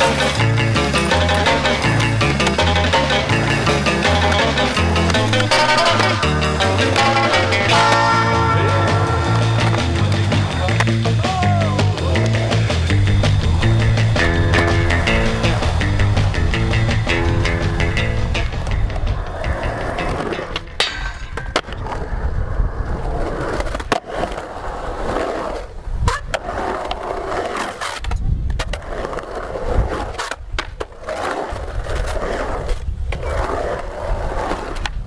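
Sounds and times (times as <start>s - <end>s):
skateboard clacking on concrete: 0.0s - 22.1s, 23.0s - 35.0s
skateboard wheels rolling on concrete: 0.0s - 35.0s.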